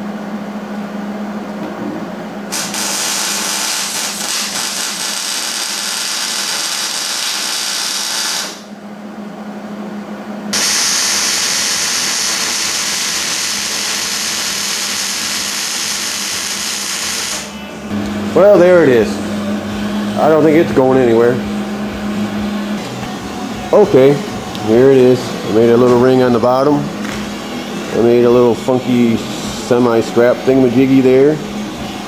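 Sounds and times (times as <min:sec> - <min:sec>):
welding arc noise: 0:02.5 - 0:08.8, 0:10.5 - 0:32.0.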